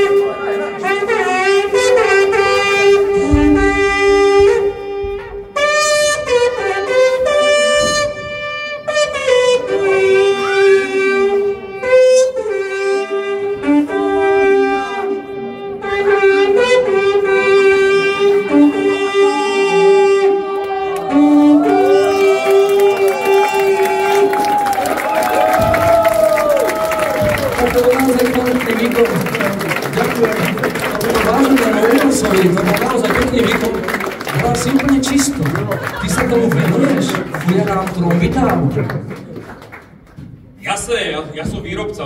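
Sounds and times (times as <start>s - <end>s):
wooden horn held notes: 0.0s - 34.7s.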